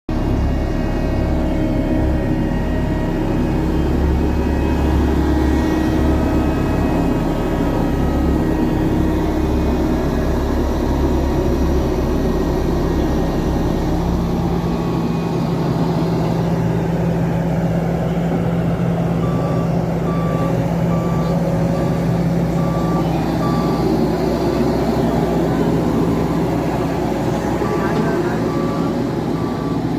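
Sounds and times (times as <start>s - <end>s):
heavy machinery engine running: 0.1s - 29.9s
reversing alarm beeping: 1.0s - 29.9s.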